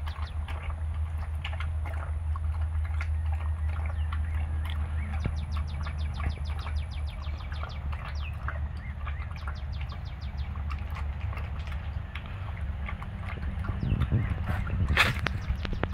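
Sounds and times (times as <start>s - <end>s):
dog lapping from metal bowl: 0.0s - 15.9s
steady low hum: 0.0s - 15.9s.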